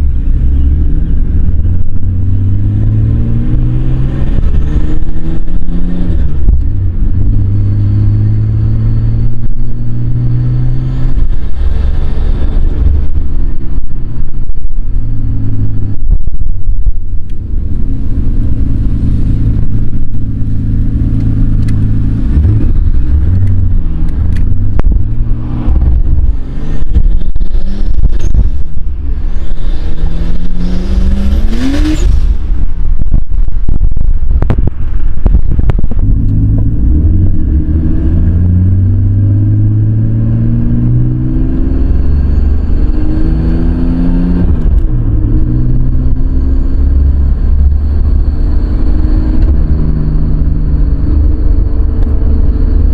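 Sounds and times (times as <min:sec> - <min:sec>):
car engine revving through gears: 0:00.4 - 0:16.4, 0:17.2 - 0:33.1, 0:35.2 - 0:52.9.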